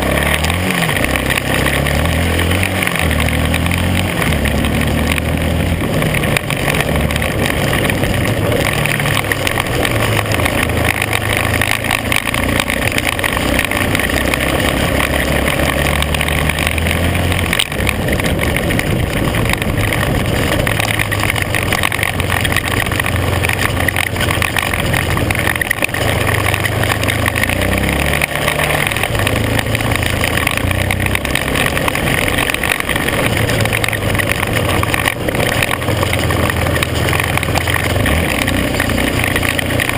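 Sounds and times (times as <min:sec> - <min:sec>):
atv engine revving: 0:00.0 - 0:39.9
tyres on gravel: 0:00.0 - 0:39.9.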